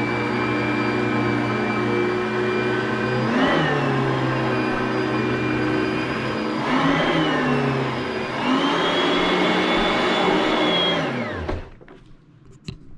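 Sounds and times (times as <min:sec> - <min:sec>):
vacuum cleaner motor whine: 0:00.0 - 0:11.8.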